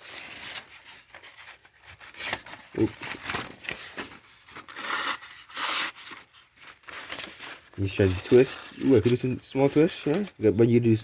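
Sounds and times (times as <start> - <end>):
paper rustling: 0.0 - 10.8.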